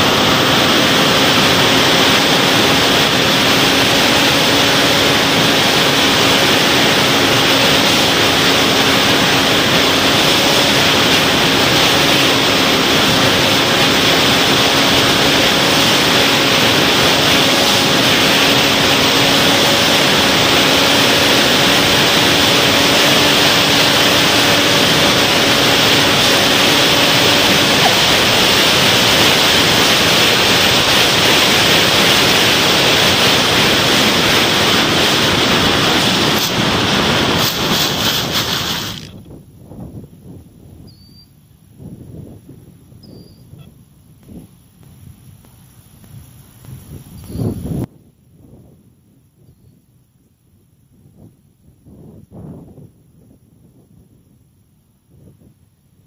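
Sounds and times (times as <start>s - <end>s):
faint motor and propeller hum: 0.0s - 56.0s
wind hissing on microphone: 0.0s - 56.0s.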